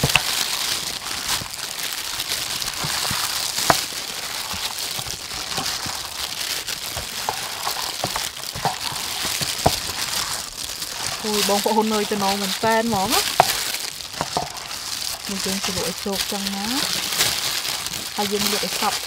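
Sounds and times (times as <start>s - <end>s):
meat mixed in wet marinade: 0.0s - 19.0s
plastic gloves crinkling: 0.0s - 19.0s.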